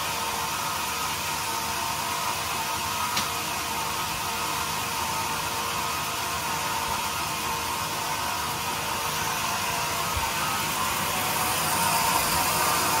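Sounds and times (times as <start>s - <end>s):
band saw whirring: 0.1s - 13.0s.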